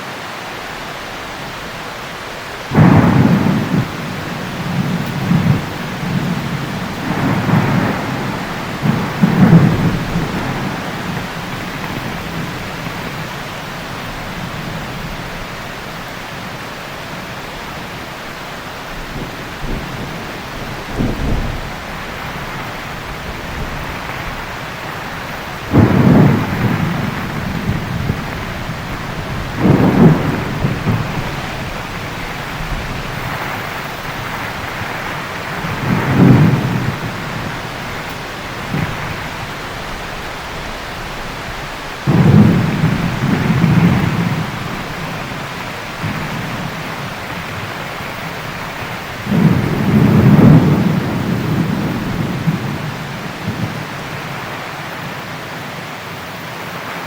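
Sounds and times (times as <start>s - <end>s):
heavy rain falling: 0.0s - 57.0s
thunder rumbling: 0.4s - 55.8s.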